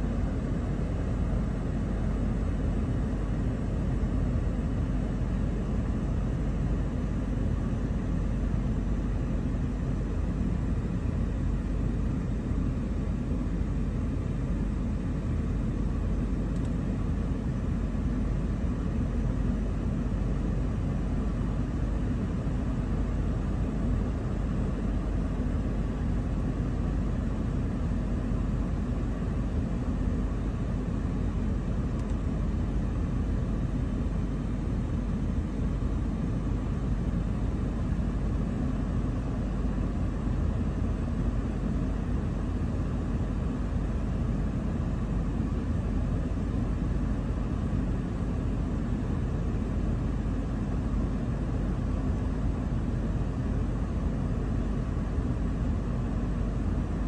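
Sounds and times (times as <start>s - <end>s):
steady low rumble: 0.0s - 57.0s.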